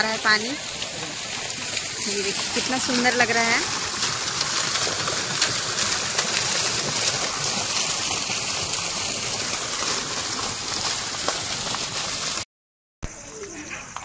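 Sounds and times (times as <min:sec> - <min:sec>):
fountain water splashing: 0:00.0 - 0:12.4.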